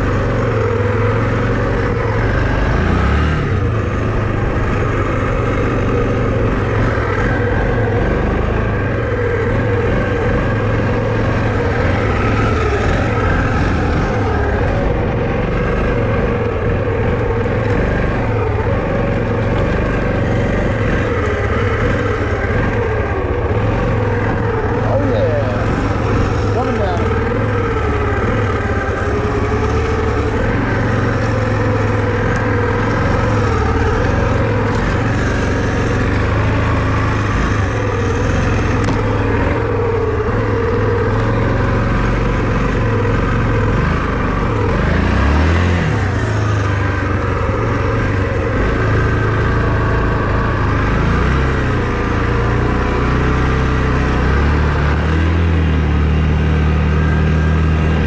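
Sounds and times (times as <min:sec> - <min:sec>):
vehicle engine running under load: 0:00.0 - 0:58.0.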